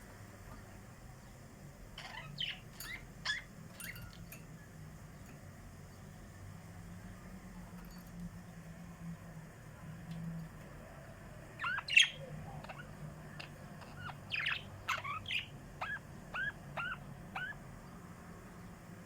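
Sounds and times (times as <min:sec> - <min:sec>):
faint low hum: 0:00.0 - 0:19.0
small birds chirping: 0:00.3 - 0:08.6, 0:11.0 - 0:19.0.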